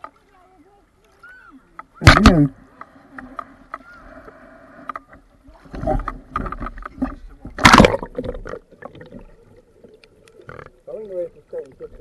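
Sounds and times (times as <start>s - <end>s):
muffled underwater splashing: 0.0s - 12.0s.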